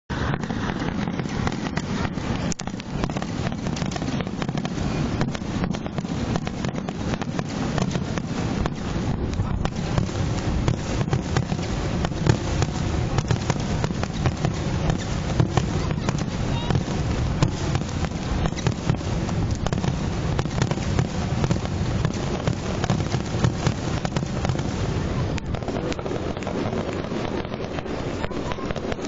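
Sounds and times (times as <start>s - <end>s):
fireworks bangs and crackles: 0.0s - 29.0s
low rumble: 0.1s - 28.4s.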